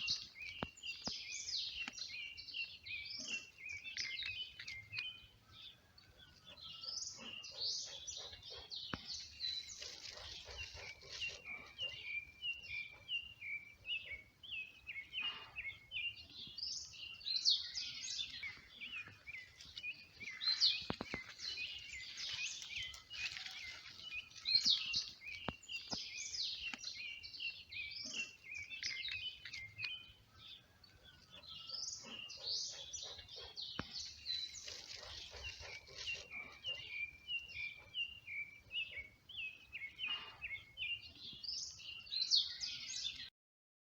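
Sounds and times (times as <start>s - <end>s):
small birds chirping: 0.0s - 43.3s.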